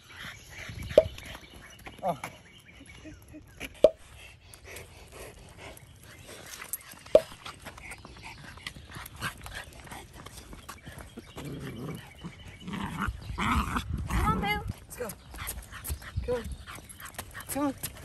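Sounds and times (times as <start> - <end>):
puppy noises: 0.0 - 18.0.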